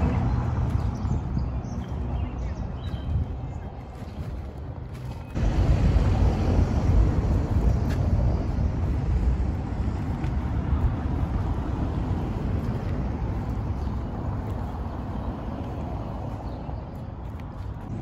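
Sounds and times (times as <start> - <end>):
street low rumble: 0.0 - 18.0.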